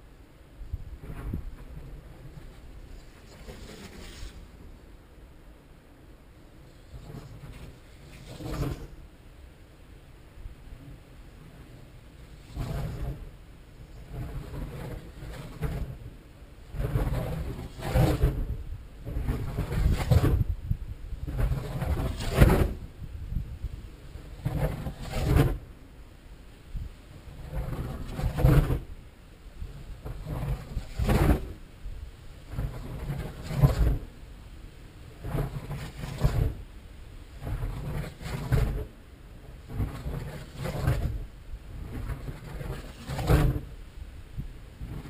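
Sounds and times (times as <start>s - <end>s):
wind rumble on microphone: 0.0s - 45.0s.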